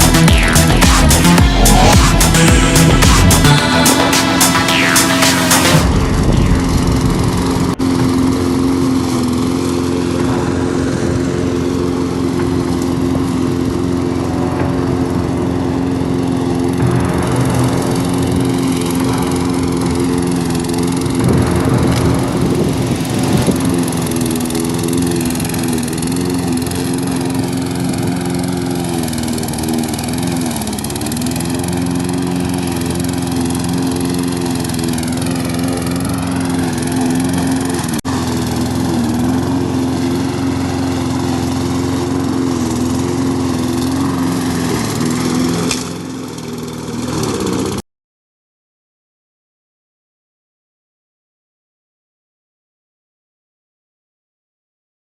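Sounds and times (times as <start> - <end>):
lawn mower engine running: 0.0 - 47.8.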